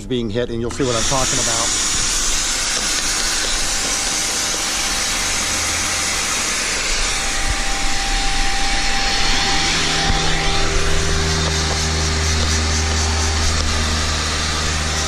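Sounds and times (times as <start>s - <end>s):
shop vac running: 0.6s - 15.0s.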